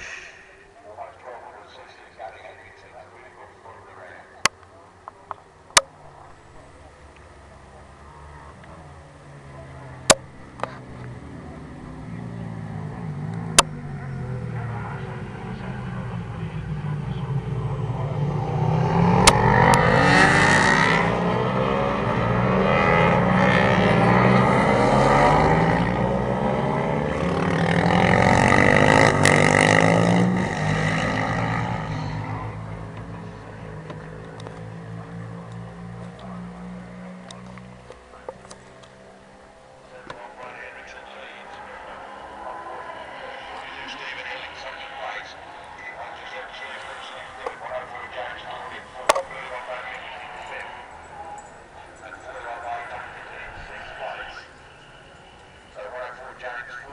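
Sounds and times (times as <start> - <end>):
racing motorcycles passing: 0.0 - 56.9.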